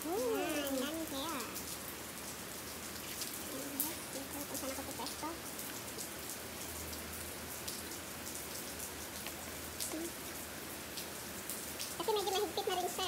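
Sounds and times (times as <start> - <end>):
rain pattering: 0.0 - 13.0
sharp ticks of raindrops: 0.0 - 13.0.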